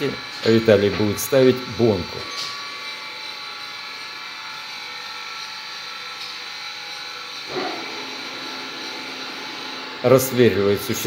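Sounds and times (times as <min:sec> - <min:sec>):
machine motor hum with whine: 0:00.0 - 0:11.0.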